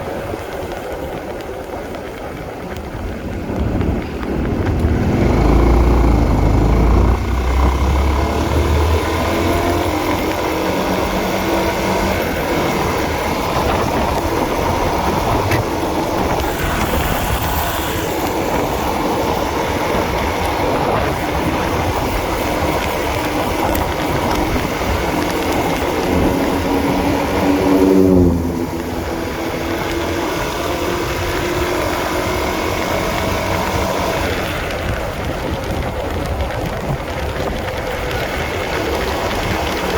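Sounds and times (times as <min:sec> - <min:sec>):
steady rushing noise: 0:00.0 - 0:39.9
motorcycle engine running: 0:00.1 - 0:39.9.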